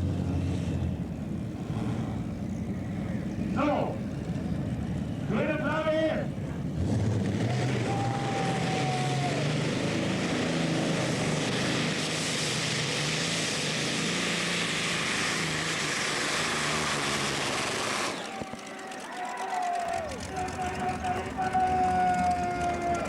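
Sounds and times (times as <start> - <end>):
tractor engine running hard: 0.0 - 23.0.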